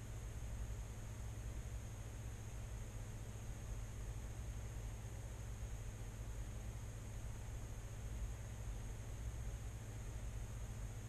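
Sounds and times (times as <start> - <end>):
faint high-pitched whine: 0.0 - 11.0
low electrical hum: 0.0 - 11.0.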